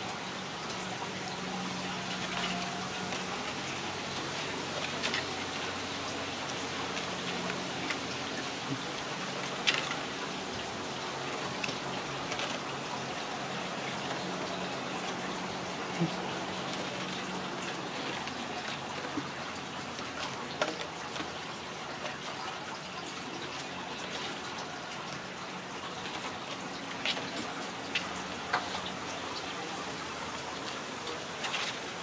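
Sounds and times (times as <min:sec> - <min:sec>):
rain hissing: 0:00.0 - 0:32.0.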